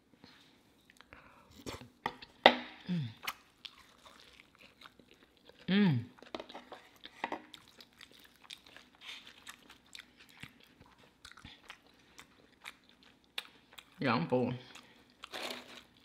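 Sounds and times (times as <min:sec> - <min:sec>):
person chewing crispy food: 0:02.9 - 0:16.0.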